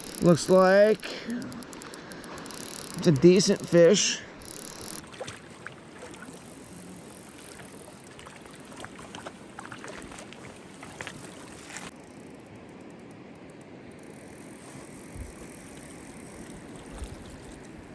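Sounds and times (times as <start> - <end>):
river water flowing: 0.0 - 12.0, 14.4 - 17.9
faint sharp ticks and clicks: 0.0 - 17.9.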